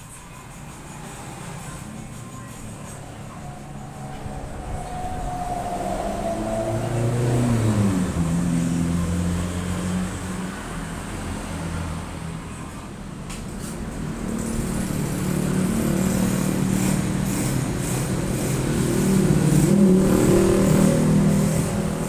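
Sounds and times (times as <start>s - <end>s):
engine running: 0.0s - 10.9s, 13.2s - 22.0s.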